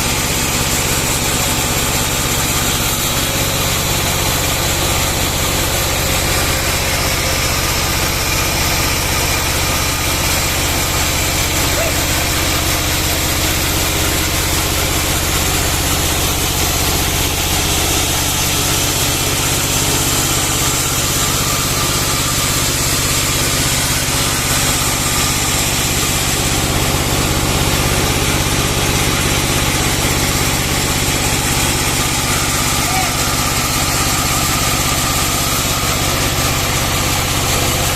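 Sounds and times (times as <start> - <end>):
sawmill engine running: 0.0 - 37.9.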